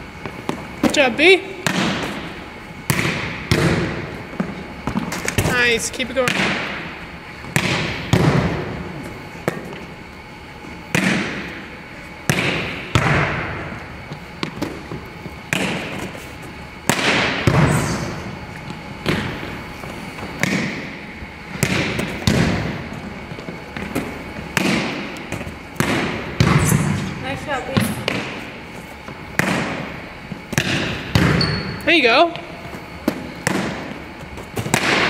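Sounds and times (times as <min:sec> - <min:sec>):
volleyball hits echoing in gym: 0:00.0 - 0:35.0.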